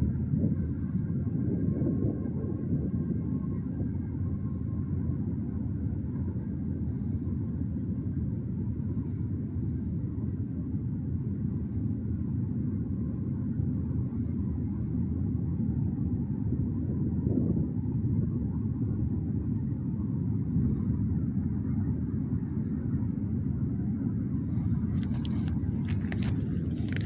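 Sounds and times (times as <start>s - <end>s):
distant freight train rumble: 0.0s - 27.0s.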